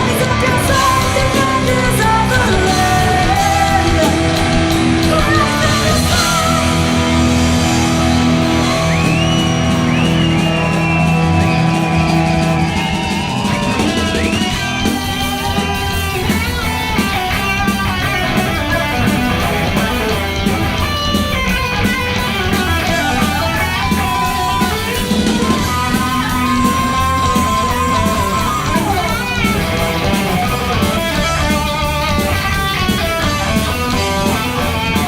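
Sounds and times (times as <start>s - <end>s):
electric guitar lead line: 0.0s - 35.0s
heavy metal band playing: 0.0s - 35.0s.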